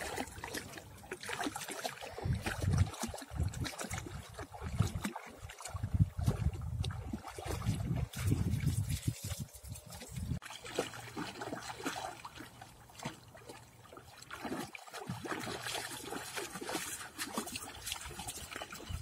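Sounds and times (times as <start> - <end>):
dogs splashing through water: 0.0 - 19.0.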